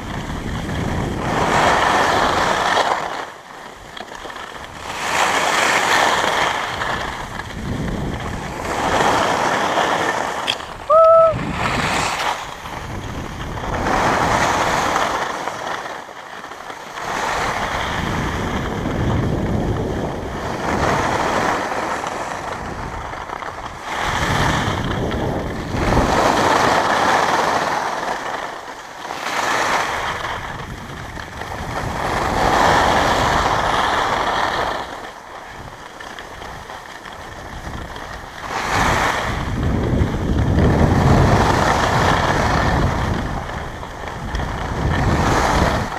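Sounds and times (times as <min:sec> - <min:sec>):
wind on microphone: 0:00.0 - 0:15.6, 0:17.0 - 0:28.3, 0:29.2 - 0:45.9
skis scraping over snow: 0:00.0 - 0:45.9.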